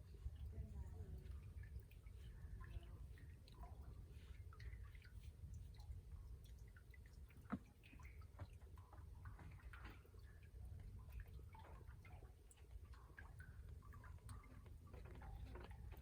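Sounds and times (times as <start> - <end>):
faint small ticks and drips: 0.0 - 16.0.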